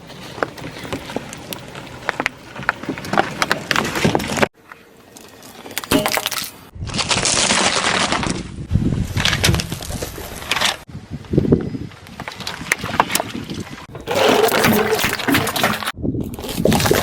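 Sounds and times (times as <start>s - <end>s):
objects cracking and crunching: 0.2s - 10.9s, 12.1s - 17.0s.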